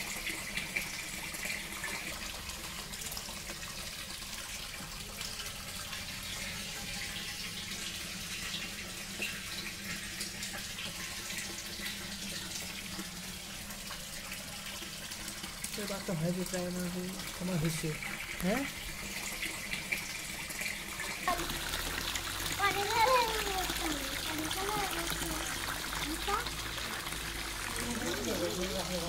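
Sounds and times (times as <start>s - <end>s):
water splashing into tank: 0.0s - 29.0s.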